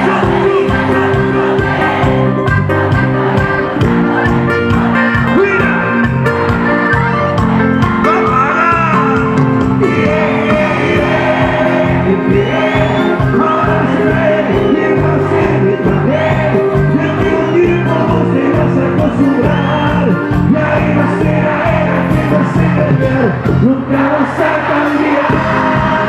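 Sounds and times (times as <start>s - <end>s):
lead vocals singing: 0.0s - 6.5s, 7.3s - 26.0s
held keyboard notes: 0.0s - 24.1s
live band playing: 0.0s - 26.0s
voices singing along: 0.0s - 26.0s.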